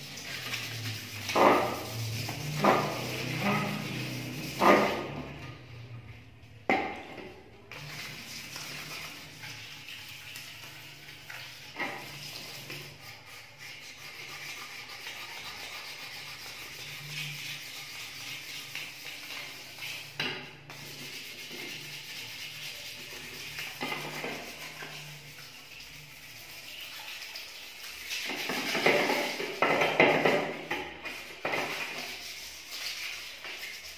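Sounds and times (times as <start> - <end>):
cloth scrubbing on metal: 0.0 - 6.0, 10.6 - 33.9.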